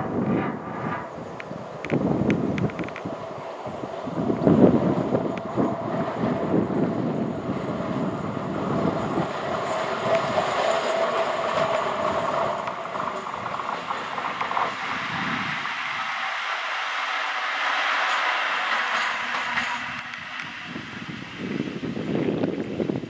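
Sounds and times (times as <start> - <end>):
locomotive whine: 0.0 - 23.0
low rumble of locomotive: 0.0 - 23.0
wheels clattering over rail joints: 1.4 - 21.7.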